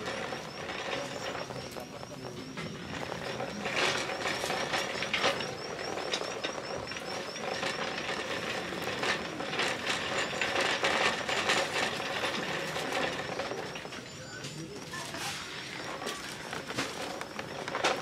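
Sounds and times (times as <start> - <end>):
shopping cart rattling on tiles: 0.0 - 18.0.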